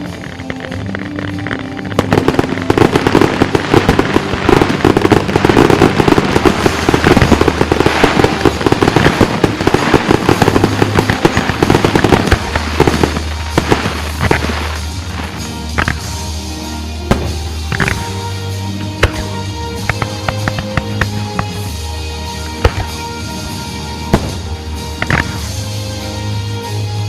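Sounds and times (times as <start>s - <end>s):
fireworks bangs and crackling: 0.0s - 27.0s
music playing: 0.0s - 27.0s.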